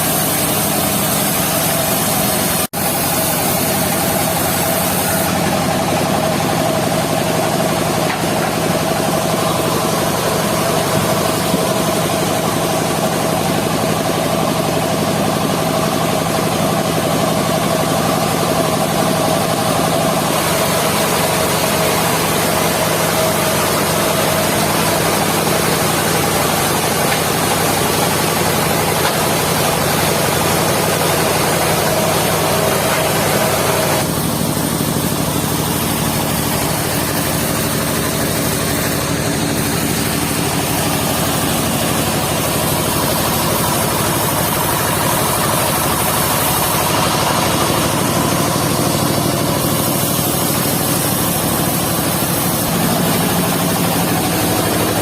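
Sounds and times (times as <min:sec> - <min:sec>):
circular sawmill running: 0:00.0 - 0:55.0.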